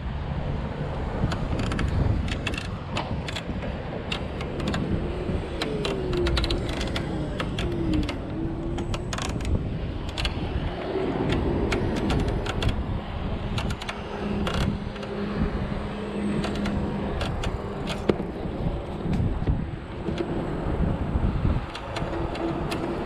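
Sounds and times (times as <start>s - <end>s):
road and wind rumble: 0.0s - 23.0s.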